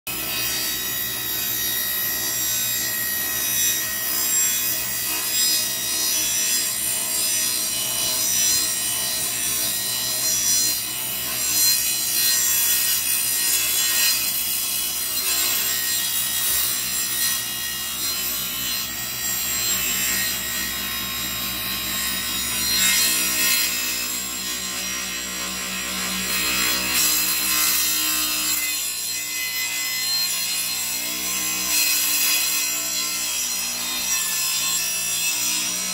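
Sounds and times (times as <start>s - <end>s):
table saw motor hum: 0.1s - 35.9s.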